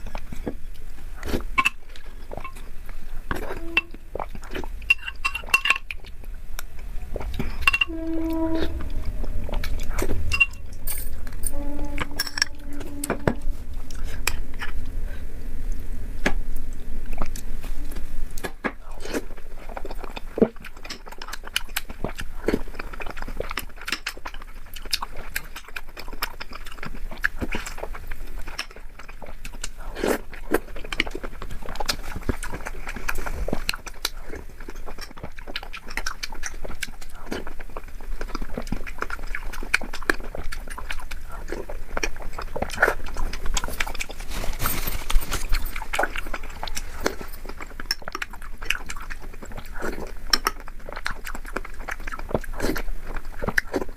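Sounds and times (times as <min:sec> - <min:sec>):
person chewing with wet smacks: 0:00.0 - 0:07.8, 0:12.6 - 0:53.9.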